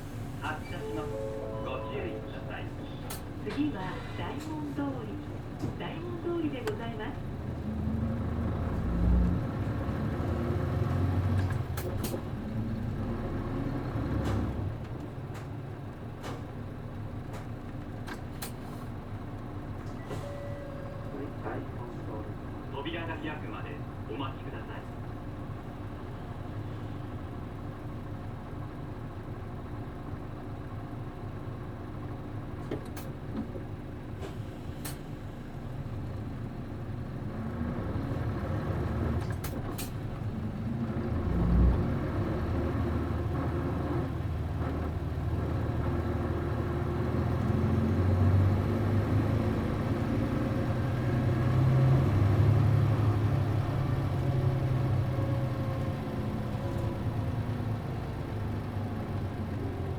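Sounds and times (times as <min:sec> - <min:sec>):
bus diesel engine idling: 0:00.0 - 0:59.9
bus pulling away: 0:00.0 - 0:59.9.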